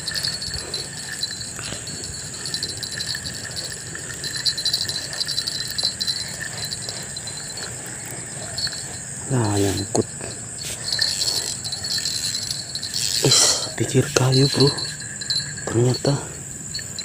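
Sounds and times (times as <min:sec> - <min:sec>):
crickets chirping: 0:00.0 - 0:17.0
high-pitched insect drone: 0:00.0 - 0:17.0.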